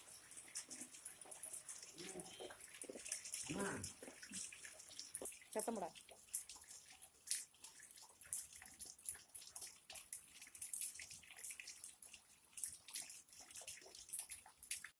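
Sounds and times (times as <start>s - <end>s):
rainwater dripping and splashing: 0.0s - 14.9s.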